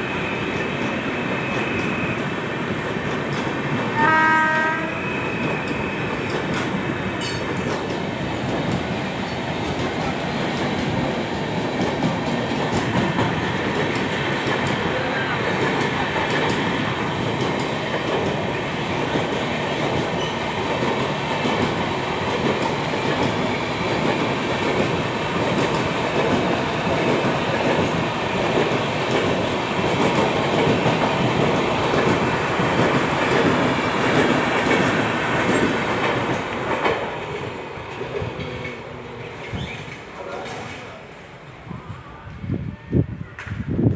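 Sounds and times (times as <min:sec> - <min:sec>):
train wheels clattering over rails: 0:00.1 - 0:04.0, 0:04.6 - 0:41.0.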